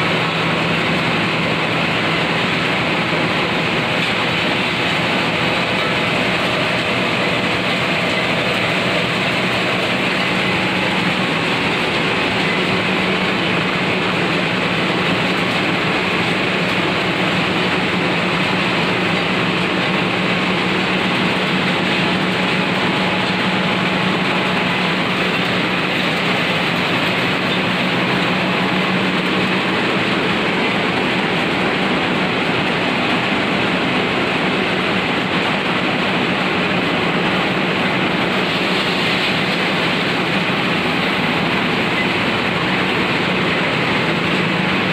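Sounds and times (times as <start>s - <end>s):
grinding machine running: 0.0s - 44.9s.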